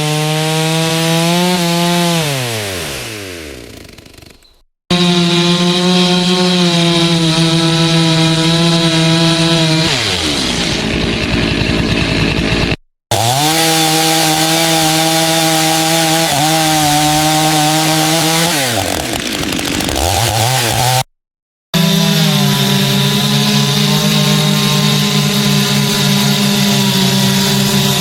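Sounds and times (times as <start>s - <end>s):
chainsaw engine revving: 0.0s - 21.1s, 21.8s - 28.0s.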